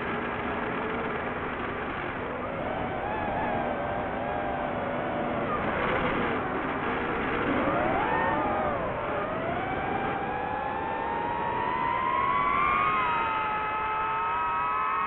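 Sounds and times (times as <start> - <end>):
drone motors whining: 0.0 - 15.0
steady rushing noise: 0.0 - 15.0.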